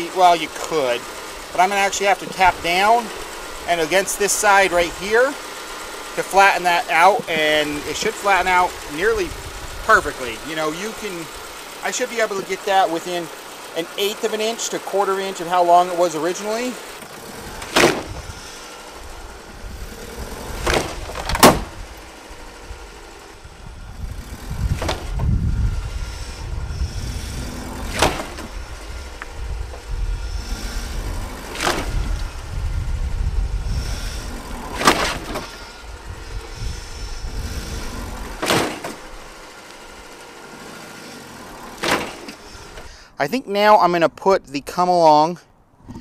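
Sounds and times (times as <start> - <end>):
truck engine revving: 0.0 - 43.2.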